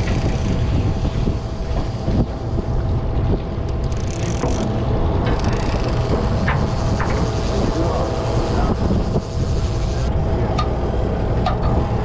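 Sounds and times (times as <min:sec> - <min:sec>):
boat engine rumbling: 0:00.0 - 0:12.0
steady thin hum: 0:00.1 - 0:12.0.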